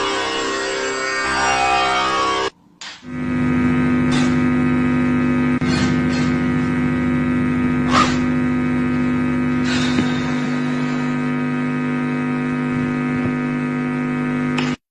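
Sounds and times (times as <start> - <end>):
guitar amplifier hum: 0.0 - 14.8.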